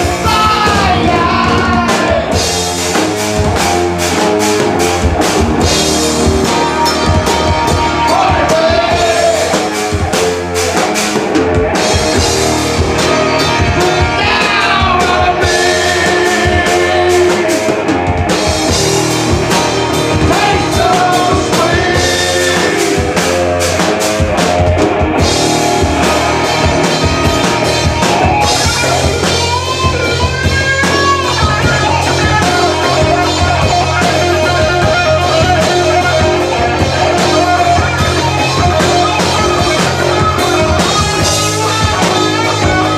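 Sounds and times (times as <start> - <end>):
drum kit: 0.0 - 42.9
electric guitar: 0.0 - 42.9.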